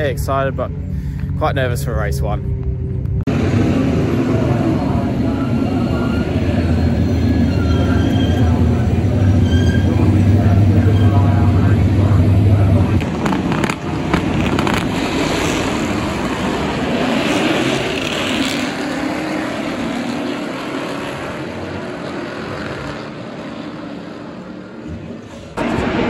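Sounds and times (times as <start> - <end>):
racing engines pulling away: 0.0 - 26.0.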